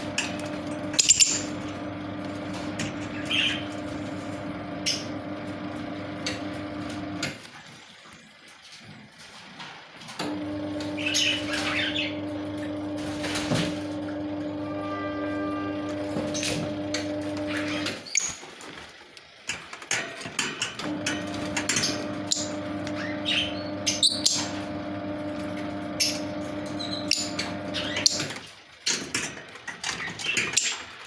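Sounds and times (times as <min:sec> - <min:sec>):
electrical hum: 0:00.0 - 0:08.4, 0:10.1 - 0:19.4, 0:20.6 - 0:28.6.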